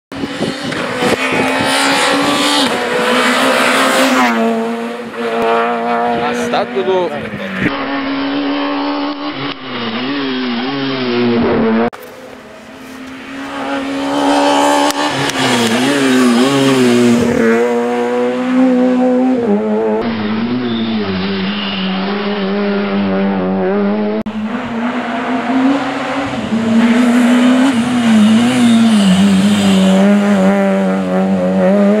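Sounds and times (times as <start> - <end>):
rally car engine revving: 0.1 - 32.0.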